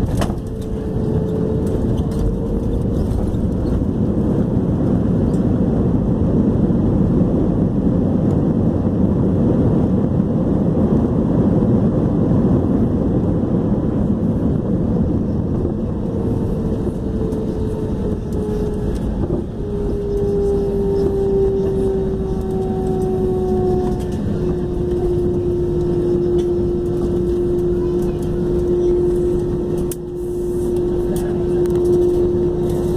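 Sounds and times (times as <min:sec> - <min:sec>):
jet engines winding down: 0:00.0 - 0:32.9.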